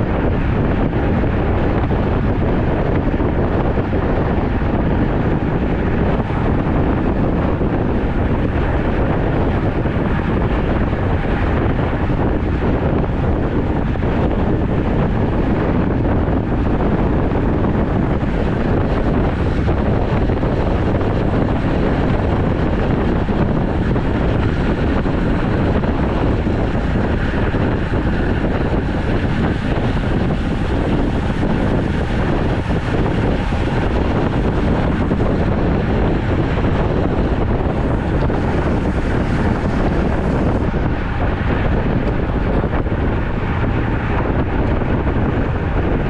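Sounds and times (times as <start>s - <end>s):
wind noise on microphone: 0.0s - 46.0s.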